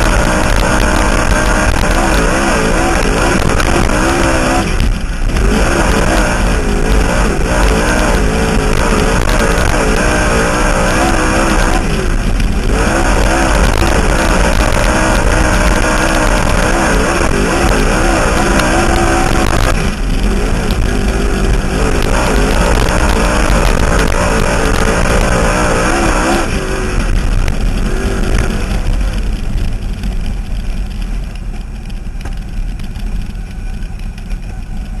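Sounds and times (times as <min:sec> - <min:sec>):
race car engine running hard: 0:00.0 - 0:35.0.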